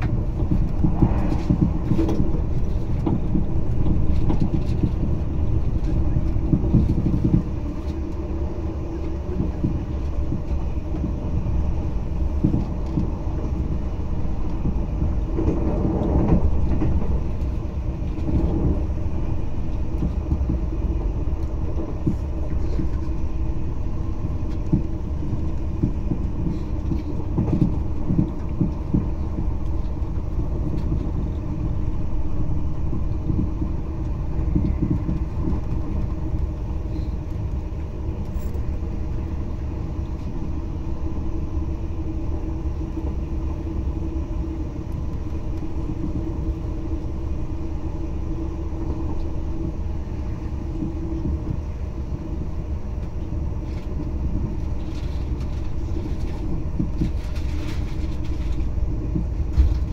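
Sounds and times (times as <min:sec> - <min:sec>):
constant train hum: 0:00.0 - 0:59.9
train wheels rumbling on rail: 0:00.0 - 0:59.9.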